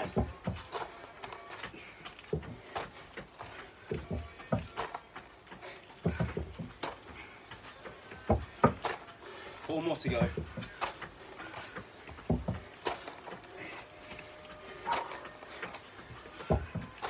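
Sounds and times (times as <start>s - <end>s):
footsteps thudding on step and decking: 0.0s - 17.0s.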